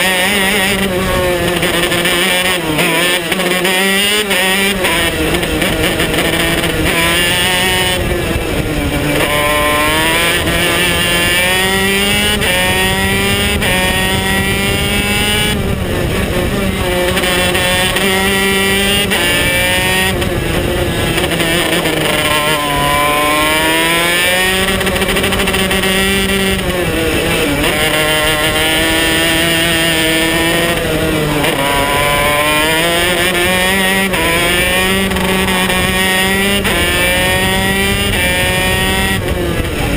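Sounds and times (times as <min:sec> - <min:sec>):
two-stroke kart engine racing: 0:00.0 - 0:39.9.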